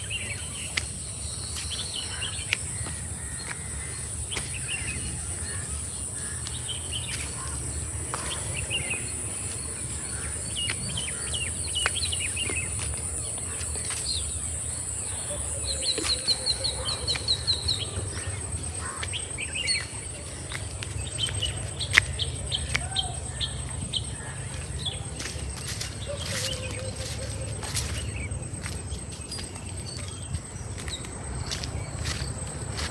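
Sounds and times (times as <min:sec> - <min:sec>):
wild birds chirping: 0:00.0 - 0:32.9.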